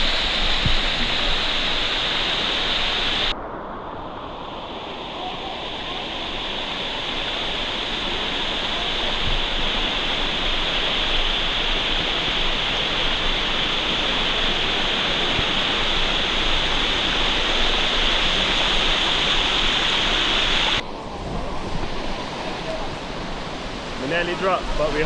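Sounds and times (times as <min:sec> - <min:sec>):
water rushing over rocks: 0:00.0 - 0:03.4, 0:04.3 - 0:25.0.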